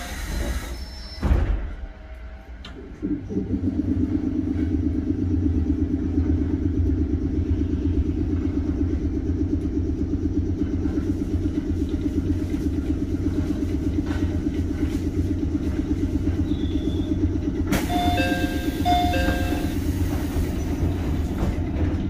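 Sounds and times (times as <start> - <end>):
train machinery low rumble: 0.0 - 22.0.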